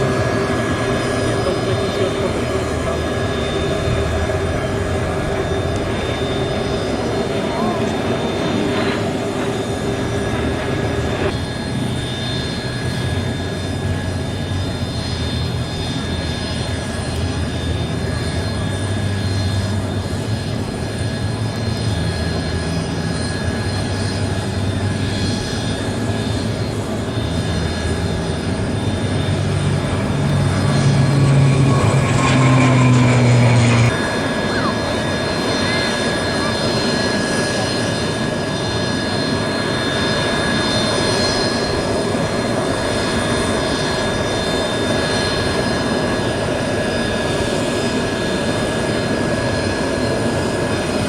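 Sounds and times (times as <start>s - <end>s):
aircraft engines humming: 0.0s - 51.0s.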